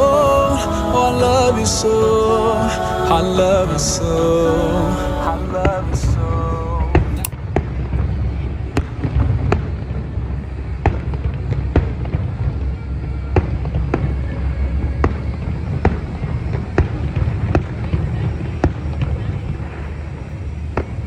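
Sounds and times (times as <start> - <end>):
low rumble of bangs: 0.0 - 21.0.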